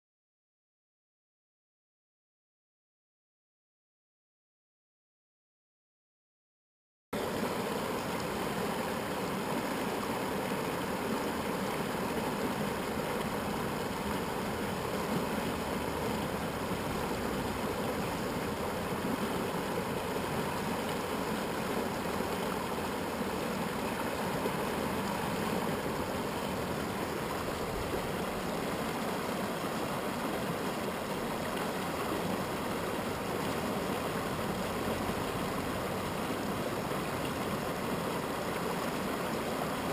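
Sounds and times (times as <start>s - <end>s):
water rushing over rocks: 7.2s - 39.9s.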